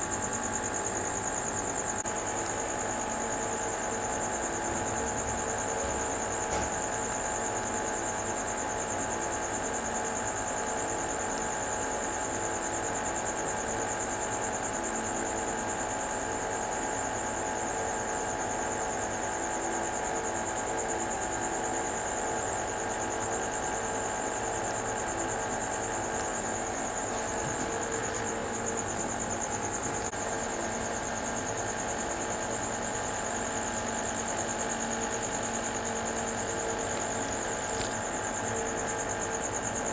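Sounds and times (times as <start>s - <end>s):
machine hum with high whine: 0.0s - 39.9s.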